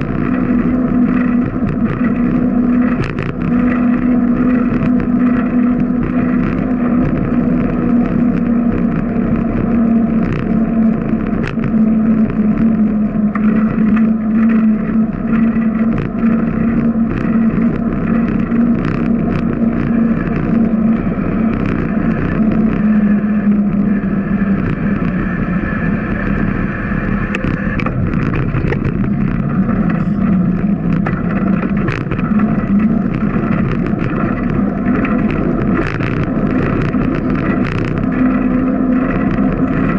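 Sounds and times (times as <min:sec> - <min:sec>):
bicycle droning hum: 0:00.0 - 0:39.9
rushing road noise: 0:00.0 - 0:39.9.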